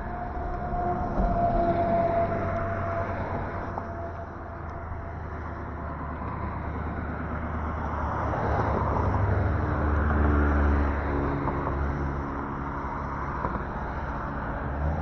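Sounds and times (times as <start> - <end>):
steady road noise: 0.0 - 15.0
vehicle passing by: 0.0 - 15.0.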